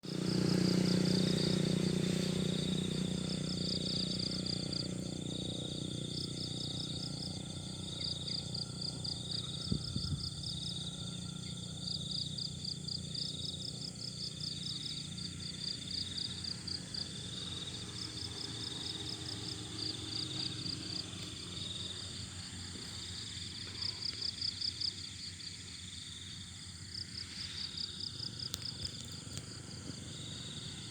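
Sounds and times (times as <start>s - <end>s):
insects chirping in trills: 0.0s - 30.9s.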